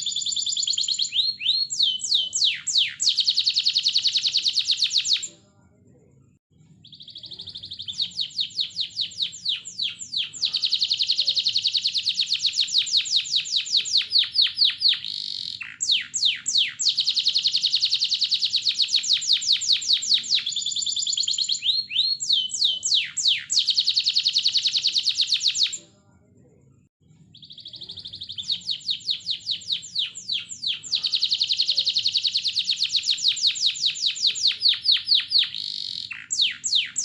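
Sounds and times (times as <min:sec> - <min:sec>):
canary singing trills: 0:00.0 - 0:05.4, 0:06.6 - 0:25.9, 0:27.2 - 0:37.0.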